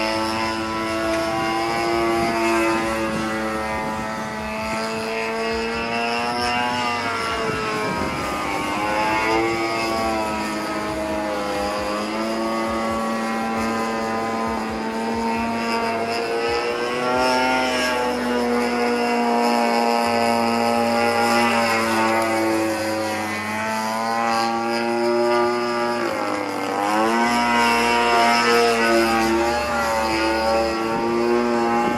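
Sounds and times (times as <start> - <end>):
model airplane engine buzzing: 0.0 - 31.9.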